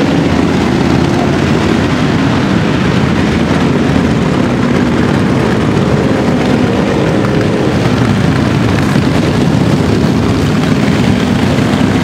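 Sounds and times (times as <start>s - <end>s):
motorcycles rumbling past: 0.0s - 12.0s.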